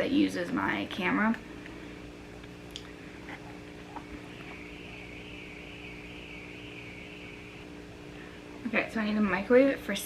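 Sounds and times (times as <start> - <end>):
electrical hum: 0.0 - 10.0
faint high-pitched whine: 0.0 - 10.0.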